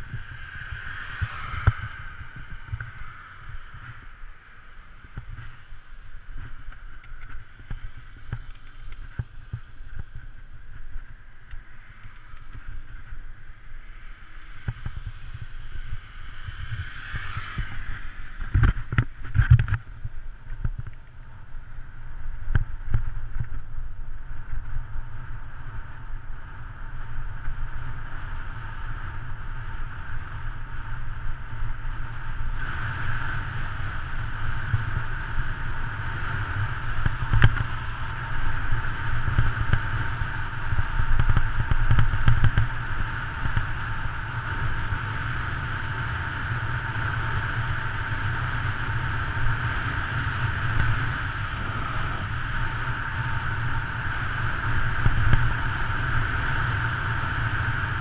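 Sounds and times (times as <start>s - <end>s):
motorcycle passing: 0.0s - 10.3s, 11.6s - 20.0s, 25.1s - 58.0s
wind rushing over camera: 0.0s - 58.0s.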